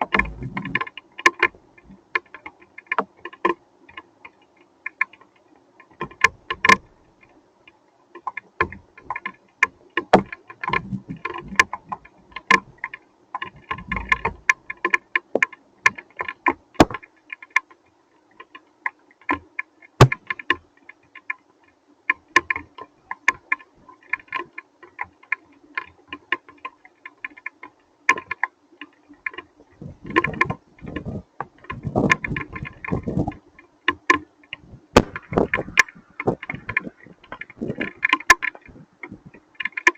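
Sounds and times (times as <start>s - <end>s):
rain patter: 0.0s - 17.4s, 22.8s - 39.9s.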